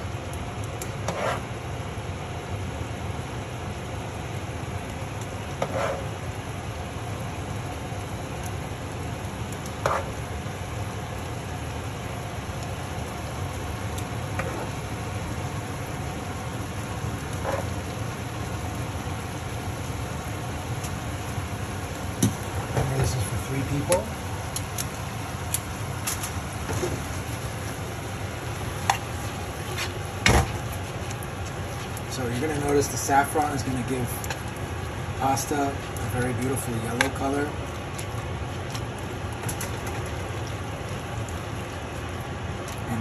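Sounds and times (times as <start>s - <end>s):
food sizzling in a pan: 0.0s - 42.8s
low steady hum: 0.0s - 43.0s.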